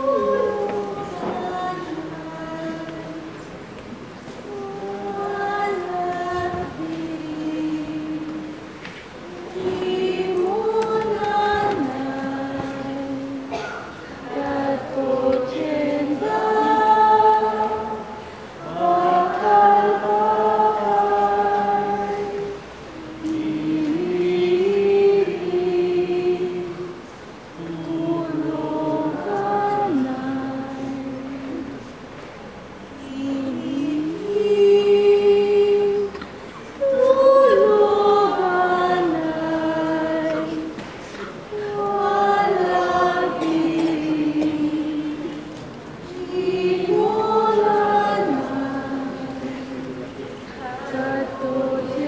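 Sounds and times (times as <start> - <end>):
voices singing long held notes: 0.0 - 52.0.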